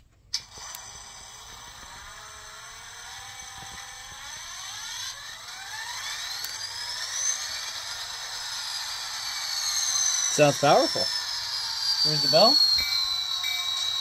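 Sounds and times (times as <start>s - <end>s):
diesel engine sound from small speaker: 1.2s - 14.0s.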